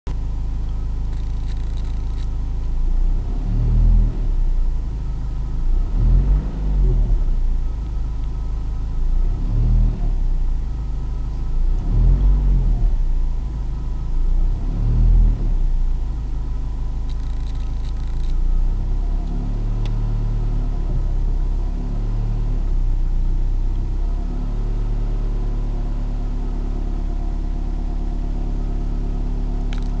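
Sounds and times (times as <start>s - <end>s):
low-pitched engine sound: 0.1s - 30.0s
diesel engine revving: 1.2s - 30.0s.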